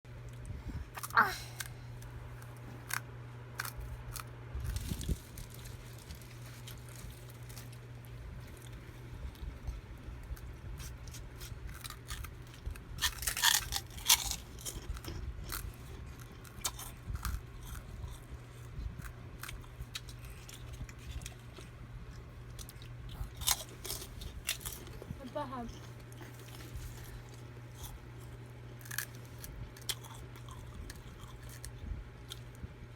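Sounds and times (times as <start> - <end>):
low hum: 0.1 - 32.9
crackers crunching: 0.2 - 32.8.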